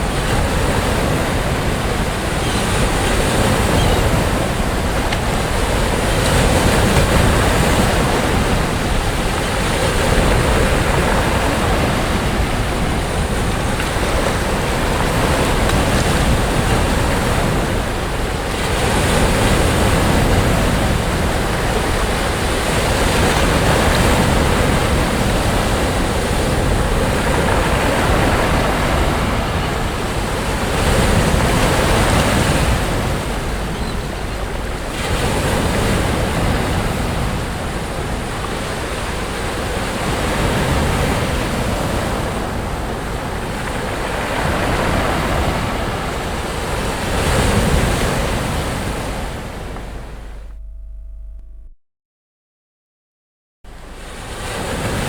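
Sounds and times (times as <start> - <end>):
sea waves breaking on beach: 0.0 - 50.5, 53.8 - 55.0.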